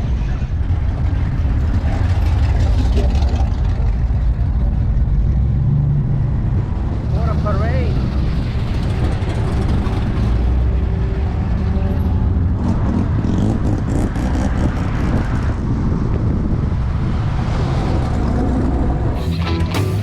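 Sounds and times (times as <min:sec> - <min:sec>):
car engine deep rumble: 0:00.0 - 0:20.0.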